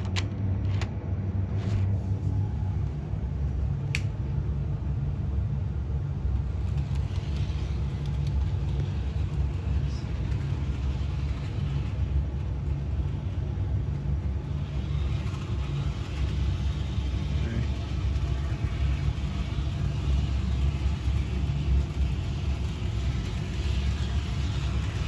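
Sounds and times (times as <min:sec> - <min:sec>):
model train rumbling on track: 0:01.6 - 0:25.0.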